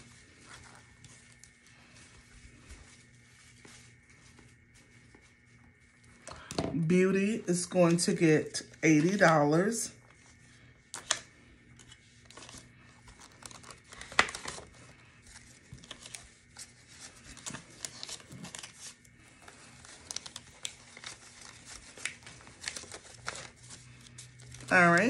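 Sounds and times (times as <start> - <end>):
paper bills rustling and crinkling: 0.0 - 25.0.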